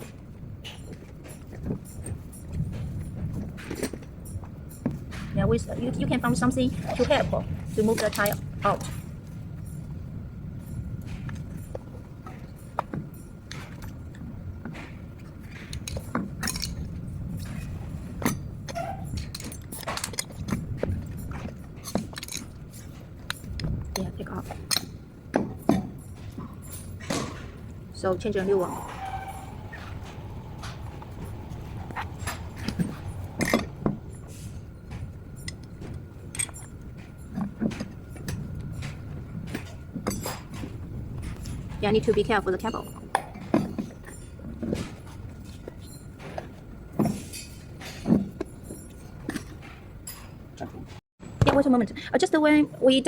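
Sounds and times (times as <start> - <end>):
clinks and knocks of hand work: 0.0 - 51.0
low background rumble: 1.3 - 46.1.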